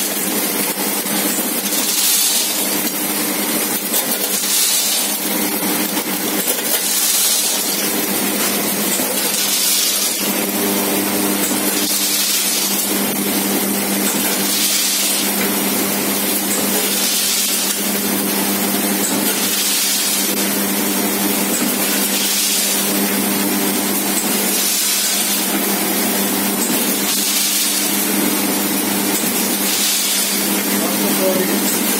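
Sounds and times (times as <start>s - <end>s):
machine motor hum: 2.7s - 31.9s.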